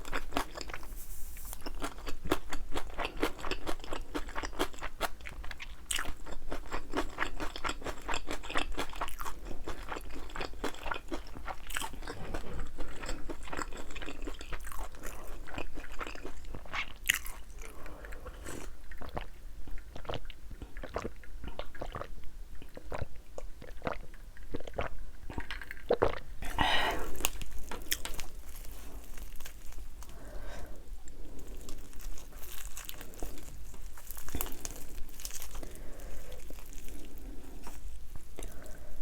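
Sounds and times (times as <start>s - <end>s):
crunchy chicken chewing: 0.0s - 39.0s.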